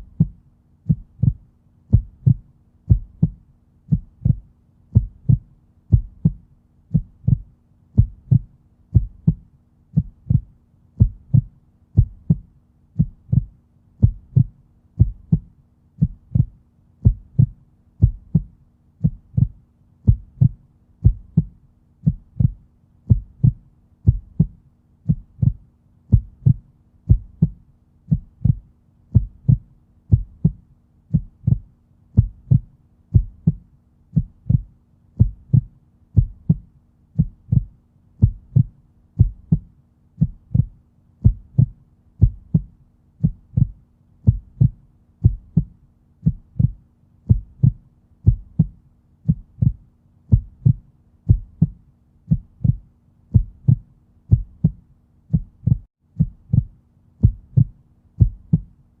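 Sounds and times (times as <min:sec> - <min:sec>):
heartbeat thumps: 0:00.0 - 0:58.8
faint steady hum: 0:00.0 - 0:59.0.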